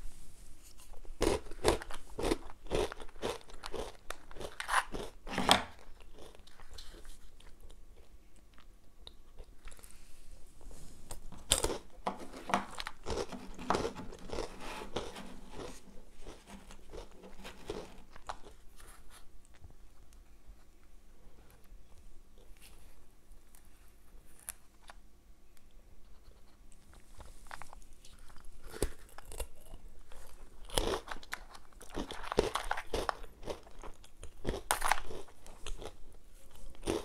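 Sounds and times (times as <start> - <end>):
quiet chewing: 0.6 - 37.0
crunching breadsticks: 0.8 - 10.0, 11.1 - 20.2, 25.6 - 37.0.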